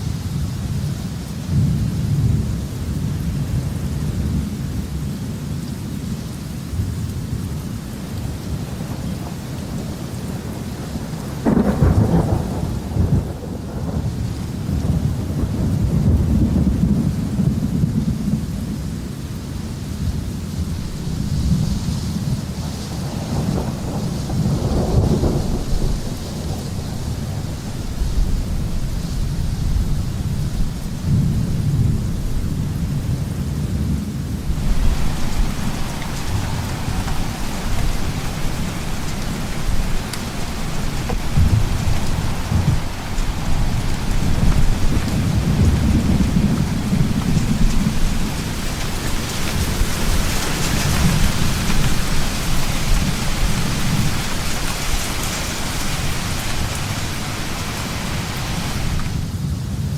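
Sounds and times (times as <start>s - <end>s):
steady rain: 0.0s - 59.9s
rolling thunder: 6.7s - 19.0s, 20.6s - 59.9s.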